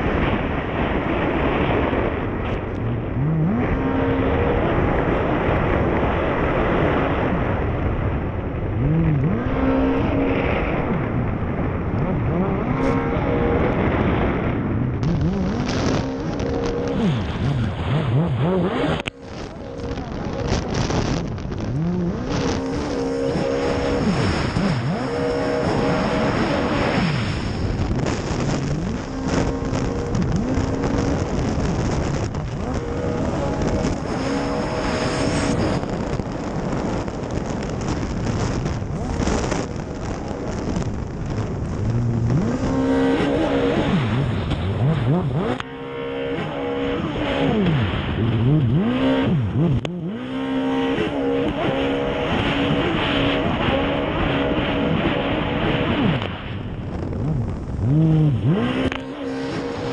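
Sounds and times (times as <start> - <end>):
jet ski engine revving: 0.0 - 59.9.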